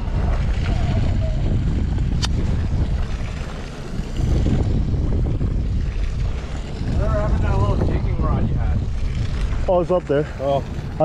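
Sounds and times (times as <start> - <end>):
low rumble of boat and sea: 0.0 - 11.0
wind buffeting microphone: 0.0 - 11.0.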